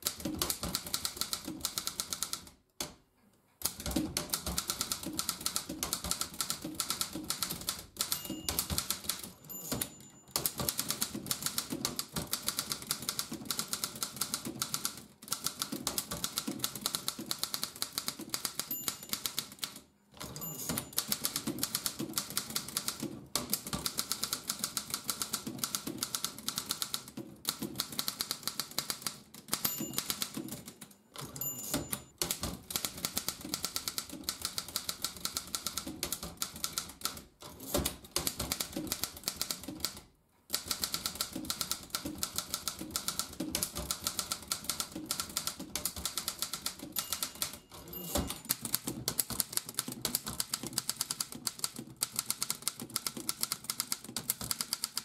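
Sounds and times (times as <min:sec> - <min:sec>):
manual typewriter typing: 0:00.0 - 0:02.6, 0:03.6 - 0:55.0.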